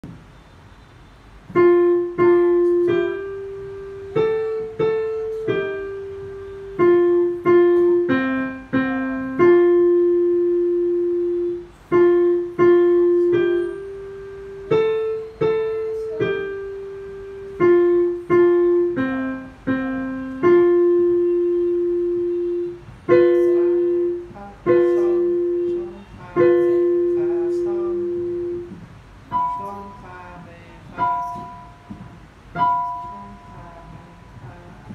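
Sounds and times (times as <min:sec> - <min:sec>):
slow digital piano melody: 0:01.3 - 0:34.9.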